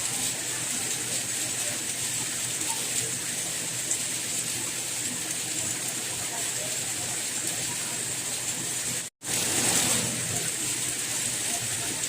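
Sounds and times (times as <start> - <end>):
soft rain falling: 0.0 - 12.0.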